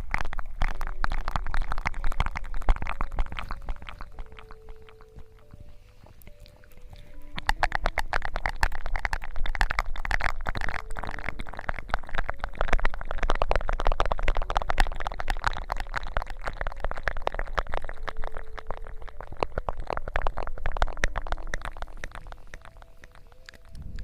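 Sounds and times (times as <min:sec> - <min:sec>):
asmr crackling and scratching: 0:00.0 - 0:24.0.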